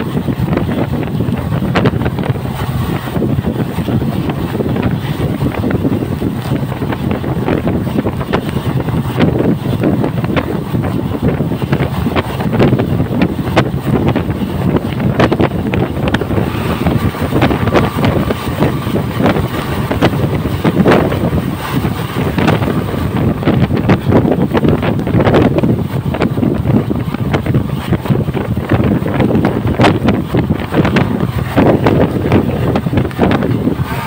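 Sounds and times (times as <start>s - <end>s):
passing train rushing by: 0.0s - 34.0s
train wheels clattering on rail joints: 0.0s - 34.0s
wind rushing over microphone: 0.0s - 34.0s.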